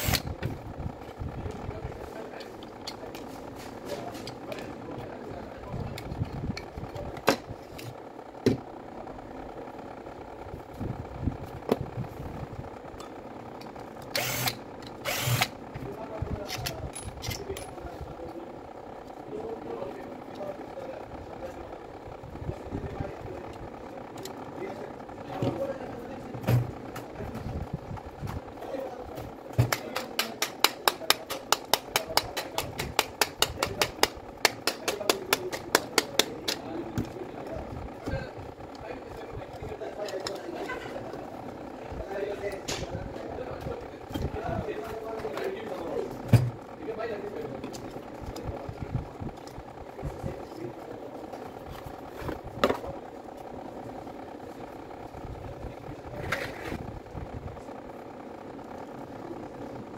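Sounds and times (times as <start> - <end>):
steady background hum: 0.0 - 59.9.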